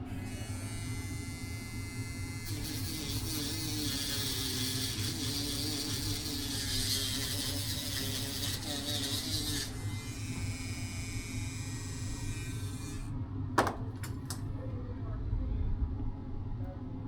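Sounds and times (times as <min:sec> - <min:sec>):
small electric tool running: 0:00.0 - 0:14.4.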